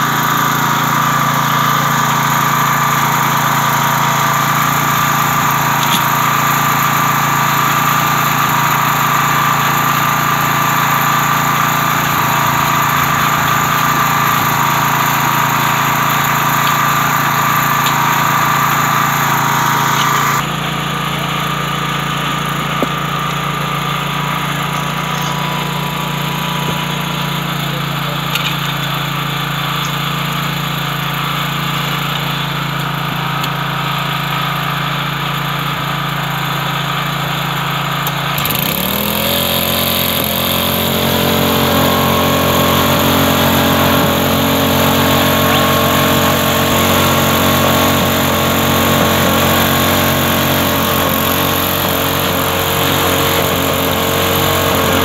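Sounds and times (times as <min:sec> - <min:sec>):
small petrol engine running: 0:00.0 - 0:55.0.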